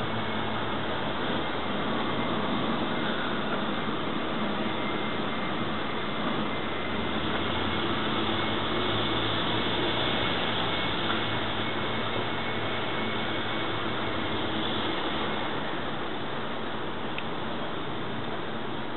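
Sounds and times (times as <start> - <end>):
street traffic noise: 0.0 - 18.9.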